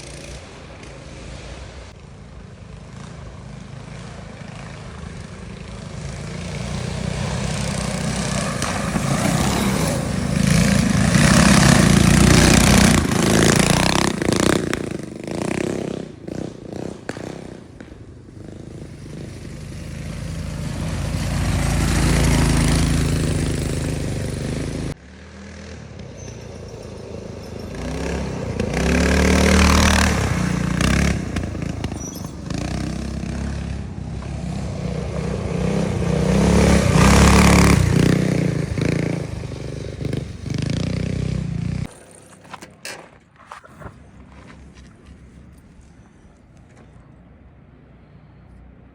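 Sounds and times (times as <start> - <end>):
minibike engines revving: 0.0 - 47.2.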